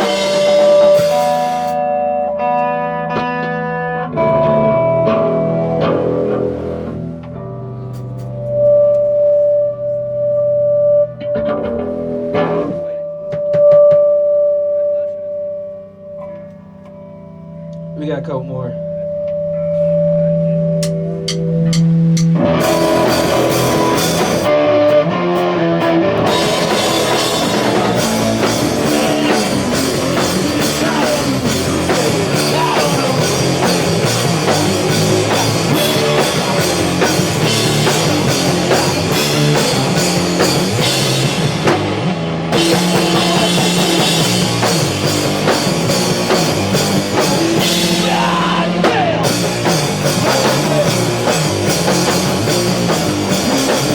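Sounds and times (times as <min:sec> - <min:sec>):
rock band playing live: 0:00.0 - 0:14.4, 0:16.2 - 0:53.9
held guitar chord: 0:00.0 - 0:53.9.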